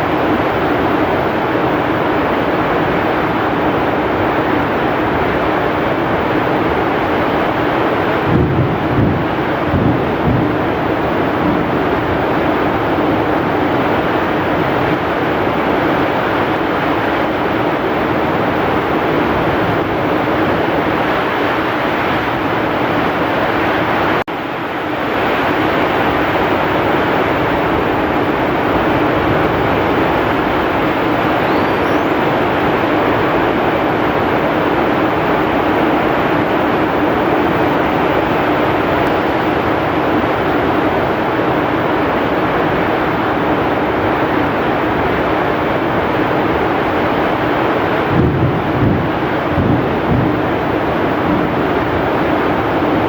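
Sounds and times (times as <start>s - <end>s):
heavy rain pouring: 0.0s - 53.0s
strong wind gusting: 0.0s - 53.0s.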